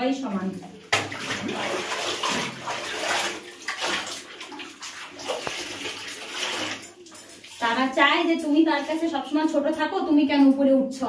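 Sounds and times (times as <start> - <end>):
water sloshing in a washtub: 0.0 - 10.0.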